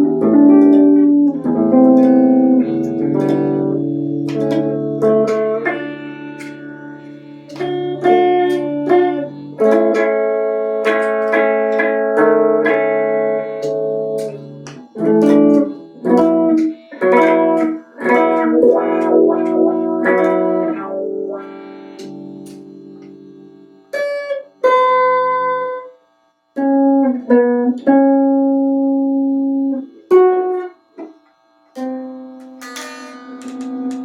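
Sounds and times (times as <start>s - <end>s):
guitar playing chords: 0.0s - 34.0s.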